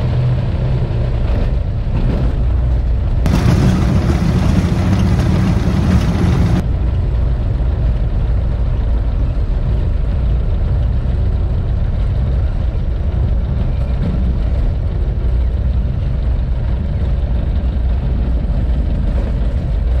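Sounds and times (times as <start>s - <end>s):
small plane engine drone: 0.0s - 20.0s.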